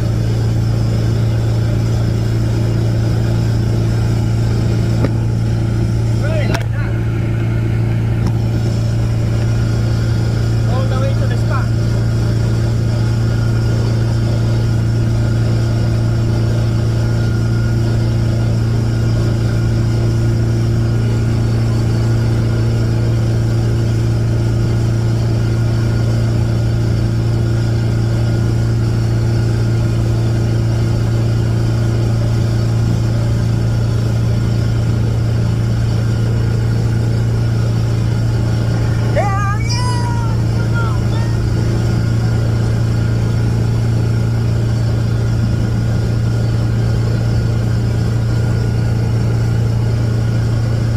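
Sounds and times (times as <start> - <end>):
boat engine humming: 0.0 - 50.9.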